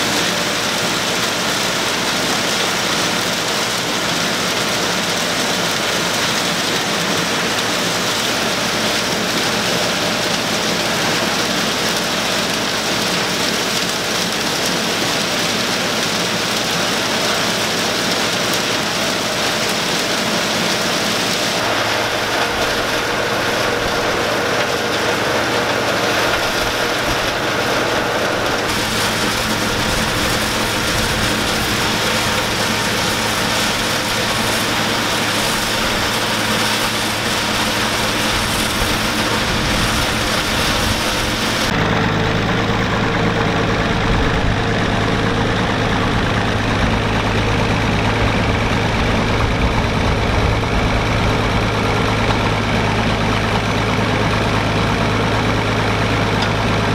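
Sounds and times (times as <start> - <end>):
silage blower rushing din: 0.0 - 56.9
tractor engine hum: 0.0 - 56.9.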